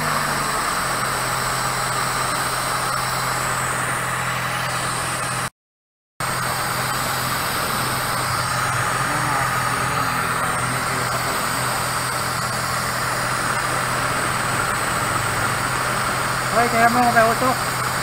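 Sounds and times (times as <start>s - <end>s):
car engine idling: 0.0s - 5.5s, 6.2s - 18.0s.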